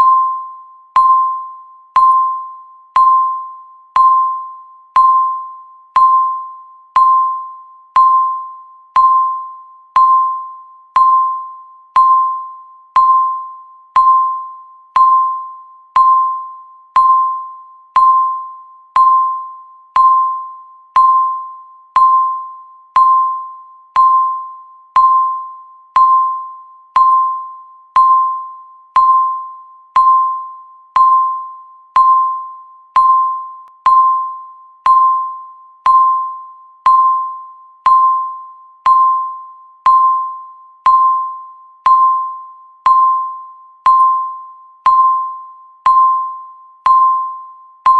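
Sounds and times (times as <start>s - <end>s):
countdown timer beeps: 0.0s - 47.9s.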